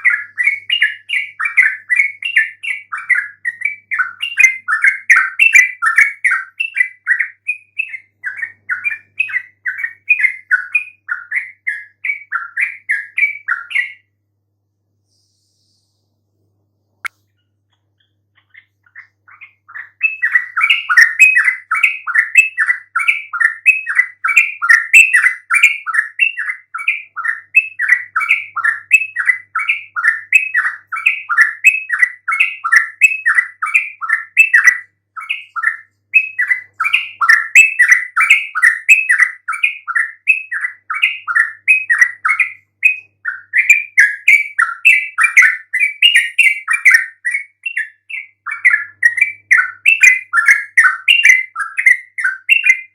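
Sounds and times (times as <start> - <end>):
bird chattering song: 0.0 - 14.2, 16.9 - 52.9.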